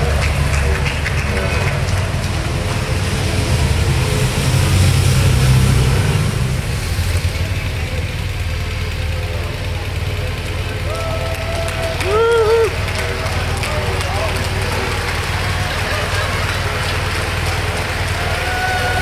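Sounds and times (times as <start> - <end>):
car engines rumbling past: 0.0 - 19.0.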